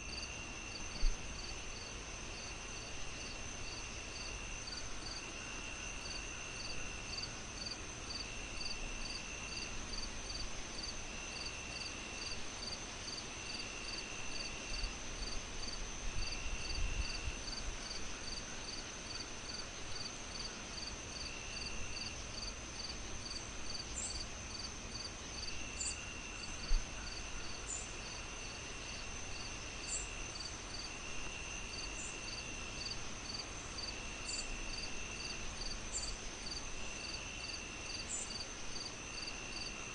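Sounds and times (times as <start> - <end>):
crickets chirping: 0.0 - 39.9
high insect whine: 0.0 - 39.9
low insect trill: 0.0 - 39.9.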